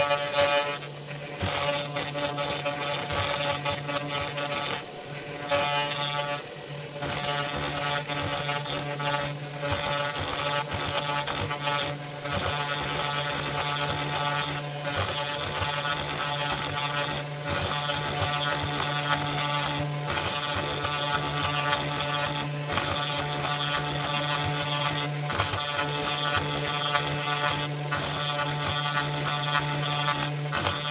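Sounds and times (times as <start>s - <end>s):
end mill cutting plywood: 0.0s - 30.9s
router spindle whining: 0.0s - 30.9s.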